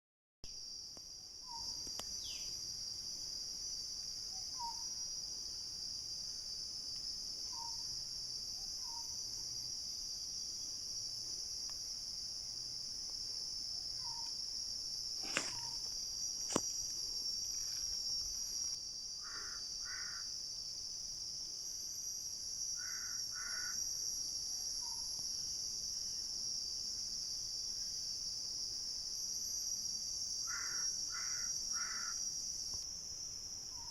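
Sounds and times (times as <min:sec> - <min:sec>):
insect chorus: 0:00.5 - 0:33.9.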